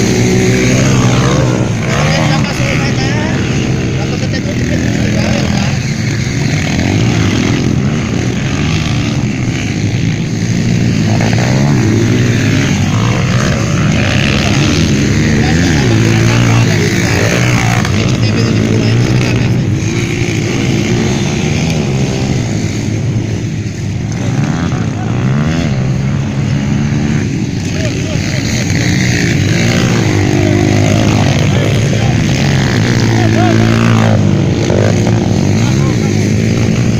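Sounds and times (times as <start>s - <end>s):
motocross bike engines revving: 0.0s - 36.9s.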